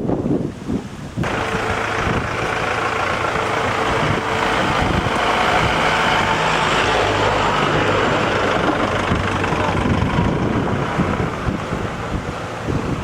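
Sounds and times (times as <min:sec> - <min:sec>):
road noise: 0:00.0 - 0:13.0
vehicle engines running: 0:01.2 - 0:13.0.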